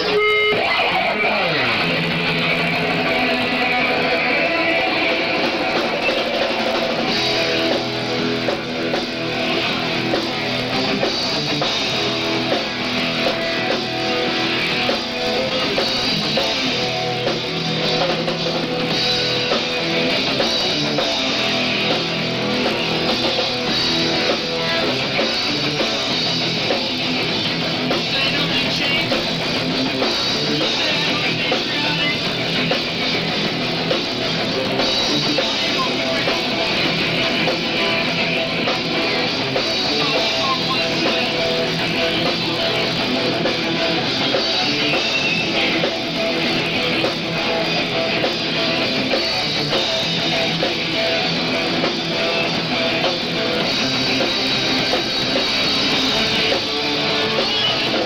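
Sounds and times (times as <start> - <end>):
distorted electric guitars: 0.0 - 58.0
drums: 0.0 - 58.0.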